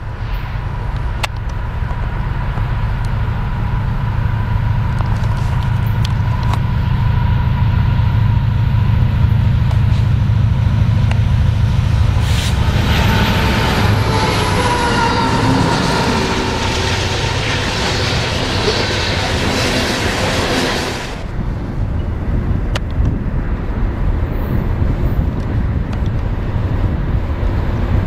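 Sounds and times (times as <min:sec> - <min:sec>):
freight train locomotive rumble: 0:00.0 - 0:28.0
train wheel and rail noise: 0:00.0 - 0:28.0.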